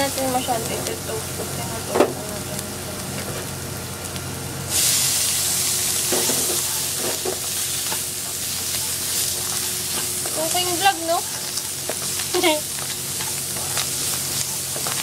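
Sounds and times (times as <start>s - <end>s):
mushrooms sizzling in hot oil: 0.0s - 15.0s
onions frying in a pan: 0.0s - 15.0s.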